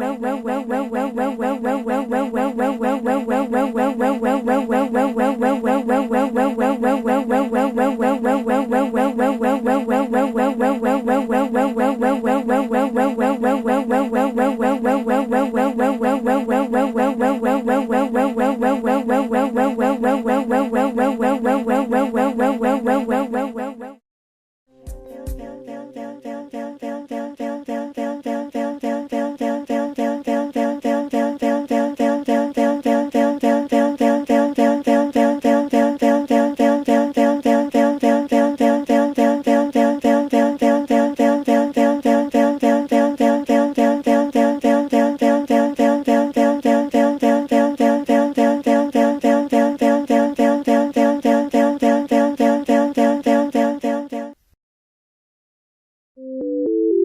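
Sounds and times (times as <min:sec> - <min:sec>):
pulsing synthesized tone: 0:00.0 - 0:24.0, 0:25.1 - 0:54.4.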